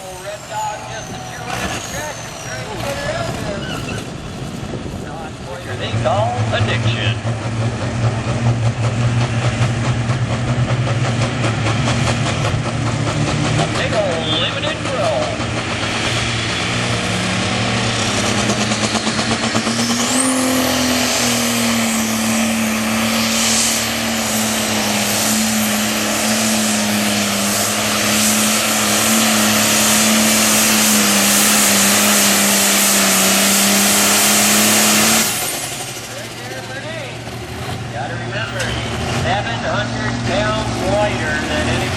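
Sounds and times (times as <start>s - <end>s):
diesel engine at full throttle: 0.0s - 41.9s
high turbo whine: 0.0s - 41.9s.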